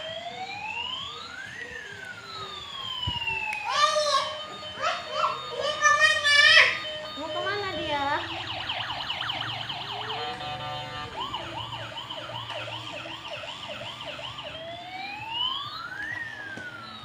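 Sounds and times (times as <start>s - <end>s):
ambulance siren: 0.0s - 17.0s.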